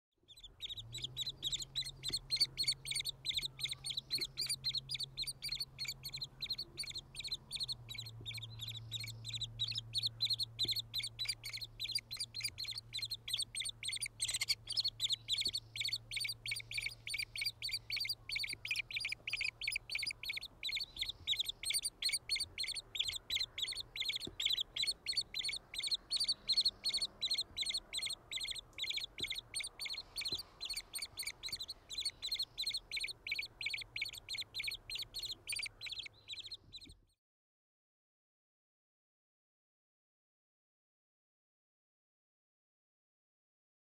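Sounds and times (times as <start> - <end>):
woodpeckers chirping: 0.3 - 36.9.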